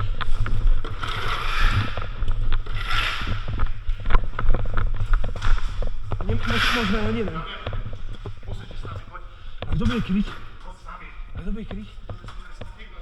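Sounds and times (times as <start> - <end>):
gear clicks scuffs and rustles: 0.0 - 13.0.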